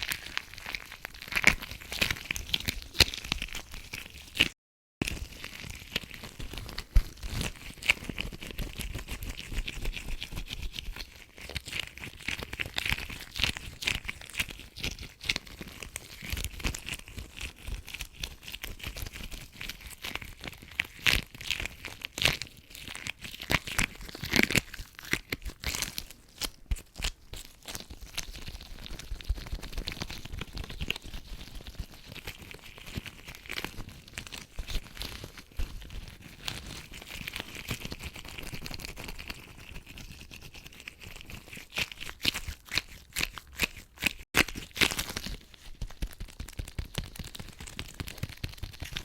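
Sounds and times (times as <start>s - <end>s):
latex gloves crinkling: 0.0s - 49.0s.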